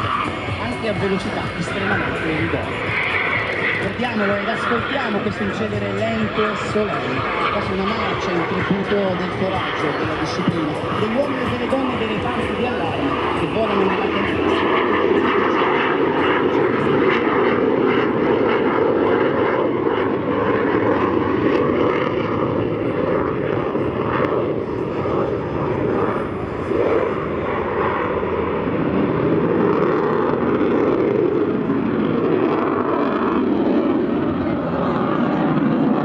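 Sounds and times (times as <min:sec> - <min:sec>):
jet engine rumble: 0:00.0 - 0:36.0.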